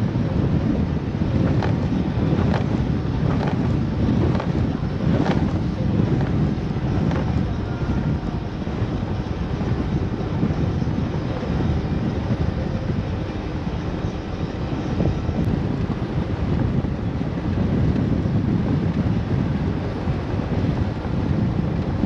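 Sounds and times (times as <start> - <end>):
boat motor running: 0.0 - 22.0
wind buffeting microphone: 0.0 - 22.0.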